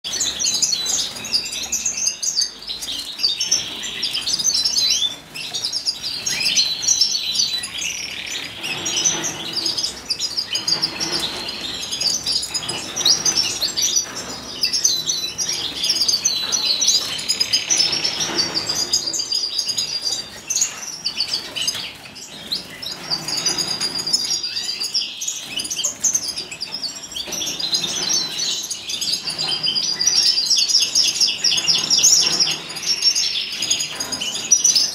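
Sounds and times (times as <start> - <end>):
canary singing rapid chirps and trills: 0.0 - 34.9.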